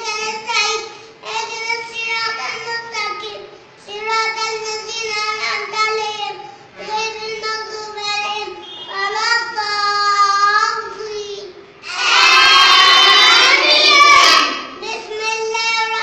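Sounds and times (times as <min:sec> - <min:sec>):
boy chanting recitation: 0:00.0 - 0:12.0, 0:12.6 - 0:16.0.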